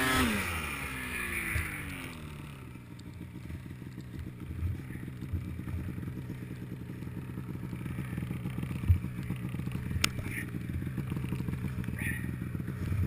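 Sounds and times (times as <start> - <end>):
snowmobile engine idling: 0.0 - 13.0.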